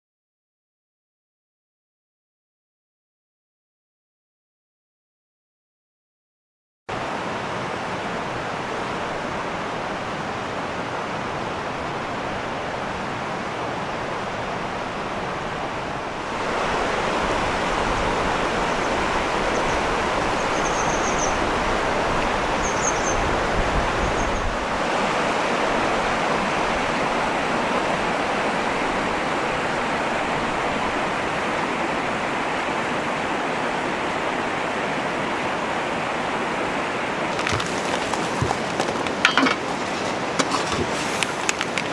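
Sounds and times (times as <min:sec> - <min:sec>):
flowing water rushing: 0:06.9 - 0:41.9.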